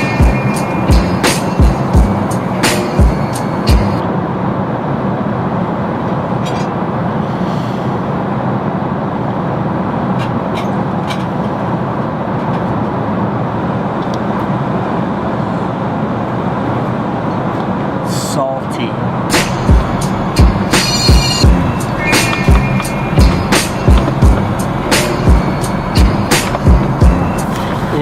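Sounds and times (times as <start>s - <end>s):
airliner cabin roar: 0.0s - 28.0s.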